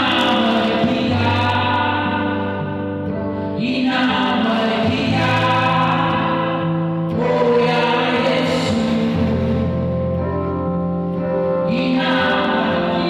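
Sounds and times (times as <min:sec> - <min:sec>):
choir singing gospel song: 0:00.0 - 0:03.0, 0:03.6 - 0:10.2, 0:11.6 - 0:13.0
sustained keyboard chords: 0:00.0 - 0:13.0.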